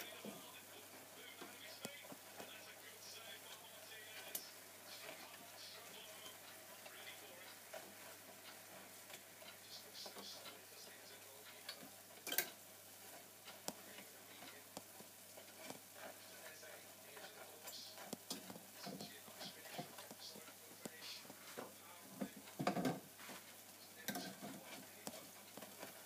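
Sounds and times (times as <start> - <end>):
hot oil crackling: 0.0 - 26.0.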